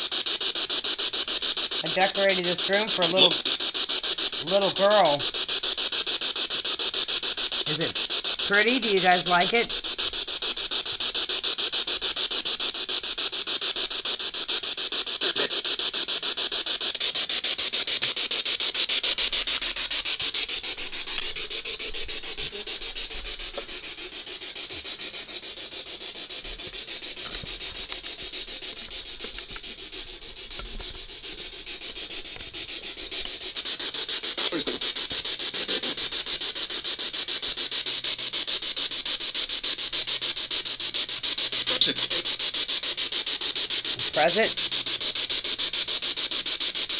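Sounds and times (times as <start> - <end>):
radio static sweeping stations: 0.0 - 46.9.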